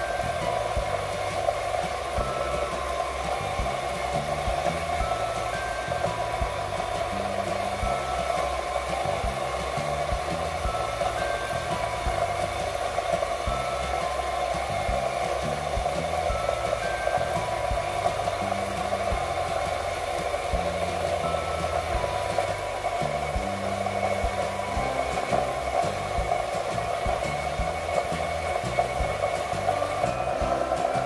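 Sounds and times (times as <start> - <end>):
background music with bass line: 0.0 - 31.0
small motor whirring: 0.0 - 31.0.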